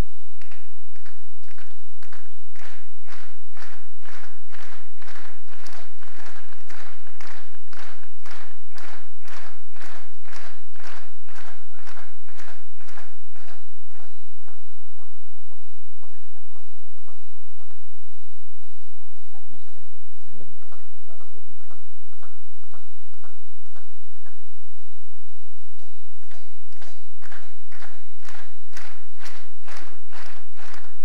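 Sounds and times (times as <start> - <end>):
crowd clapping in unison: 0.0 - 18.8, 19.6 - 24.9, 25.8 - 31.0.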